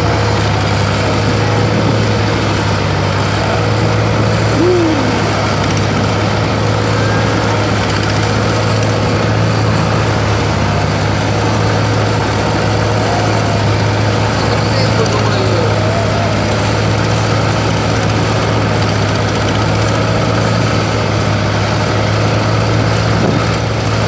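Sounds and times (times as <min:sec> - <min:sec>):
small engine droning: 0:00.0 - 0:24.0.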